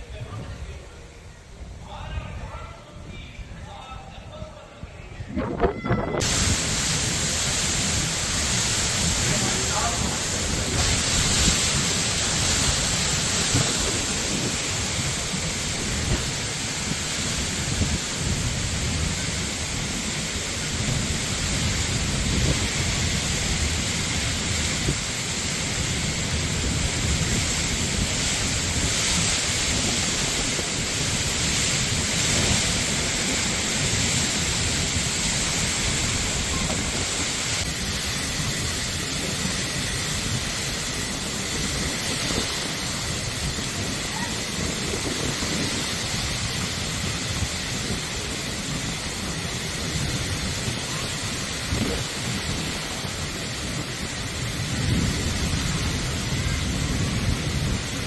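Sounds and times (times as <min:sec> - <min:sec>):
low uneven rumble: 0:00.0 - 0:58.0
torrential rain pouring: 0:00.0 - 0:58.0.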